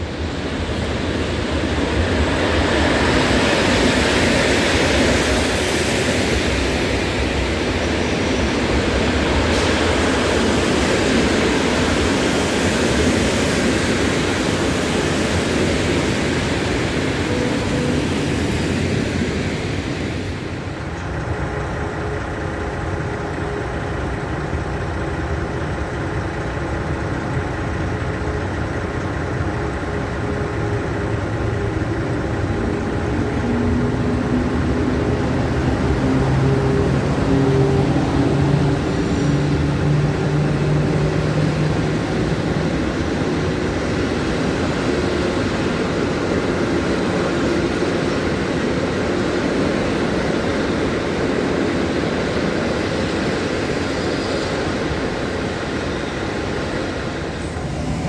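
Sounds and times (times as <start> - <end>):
electric locomotive motor hum: 0.0 - 58.0.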